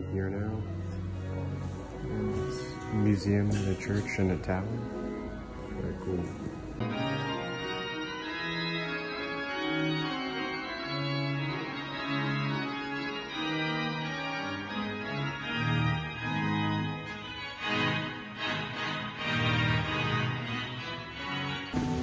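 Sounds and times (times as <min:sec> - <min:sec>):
pipe organ playing held notes: 0:00.0 - 0:22.0.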